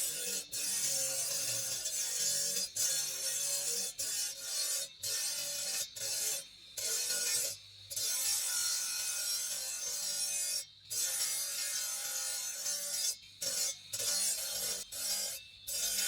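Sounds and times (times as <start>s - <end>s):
file rasping on stone: 0.0s - 16.0s.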